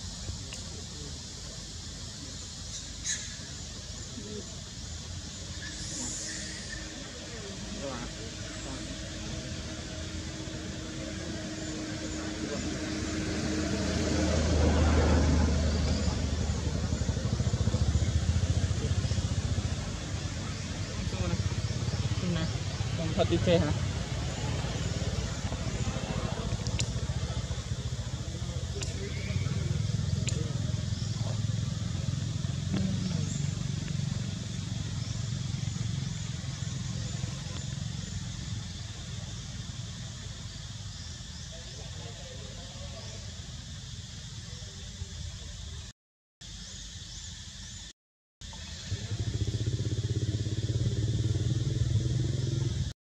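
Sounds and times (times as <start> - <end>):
small engine idling: 0.2 - 45.9, 48.4 - 52.9.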